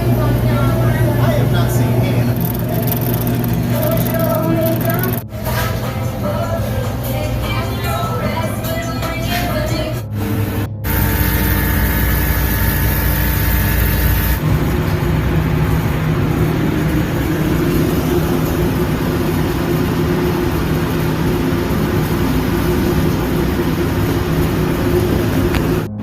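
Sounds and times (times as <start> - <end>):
machine hum with held tones: 0.0 - 5.3, 10.1 - 26.0
noisy background: 0.0 - 26.0.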